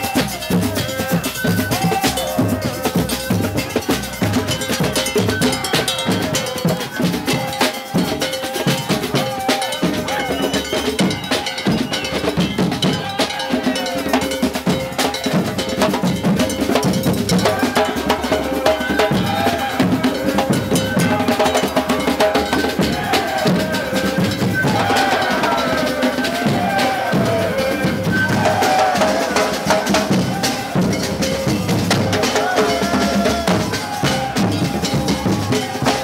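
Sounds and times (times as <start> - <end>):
clanking metallic beats: 0.0 - 36.0
festival music with fast percussion: 0.0 - 36.0.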